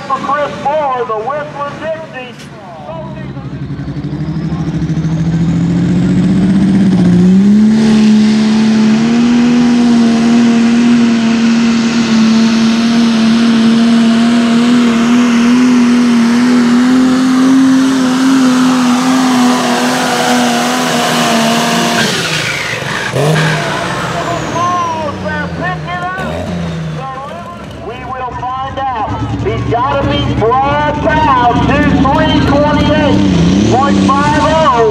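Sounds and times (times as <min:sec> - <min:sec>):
tractor engine at full throttle: 0:00.0 - 0:34.9.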